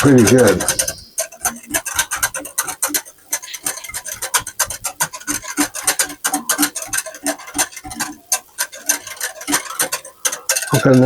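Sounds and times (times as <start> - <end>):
whisk scraping glass bowl: 0.0 - 11.0.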